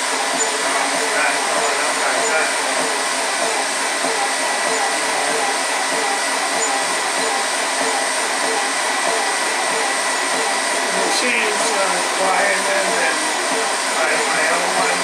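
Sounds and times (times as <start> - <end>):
compressor motor and fan running: 0.0 - 15.0
thin high whine: 0.0 - 15.0.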